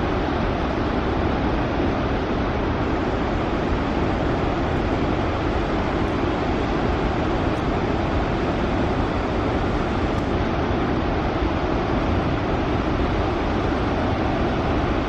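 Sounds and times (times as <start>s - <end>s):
water rushing from dam: 0.0s - 15.0s.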